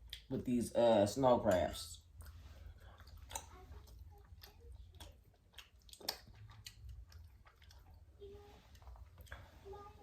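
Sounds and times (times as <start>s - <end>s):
close-up chewing: 0.0s - 0.5s, 1.5s - 10.0s.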